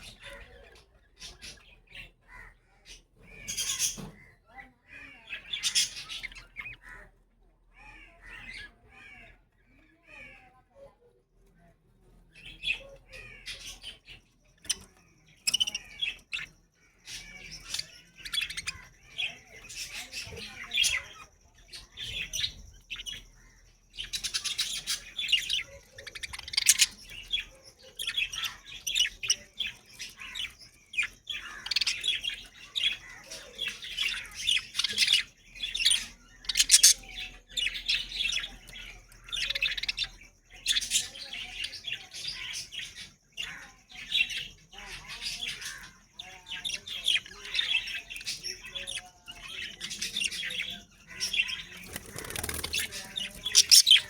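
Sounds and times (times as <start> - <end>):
budgerigars chirping and chattering: 0.0 - 54.0.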